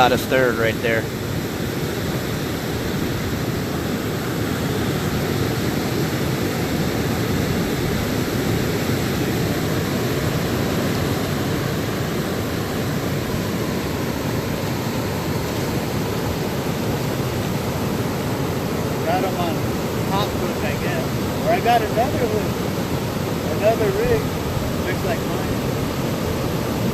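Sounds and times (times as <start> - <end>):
river water rushing over rapids: 0.0 - 26.9.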